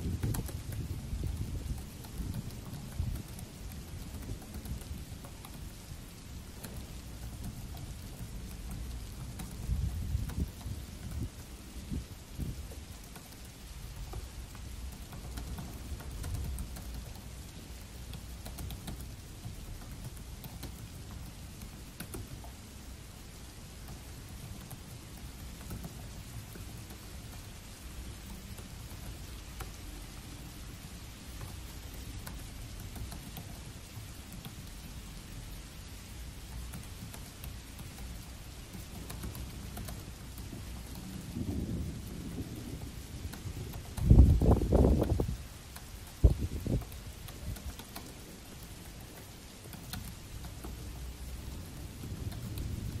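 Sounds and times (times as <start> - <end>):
laptop keyboard typing: 0.0 - 53.0
steady rain: 0.0 - 53.0.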